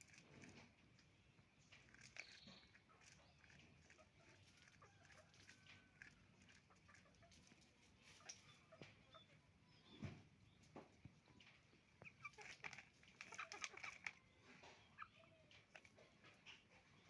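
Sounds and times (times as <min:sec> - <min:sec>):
chickens clucking faintly: 0:00.0 - 0:17.0.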